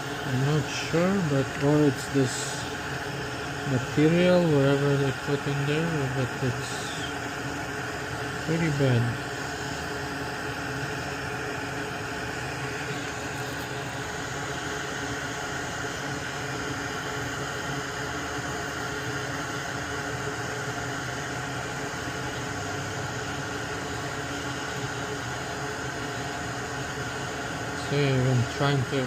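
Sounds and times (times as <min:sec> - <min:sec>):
faint steady hums: 0:00.0 - 0:29.0
fan blowing air: 0:00.0 - 0:29.0.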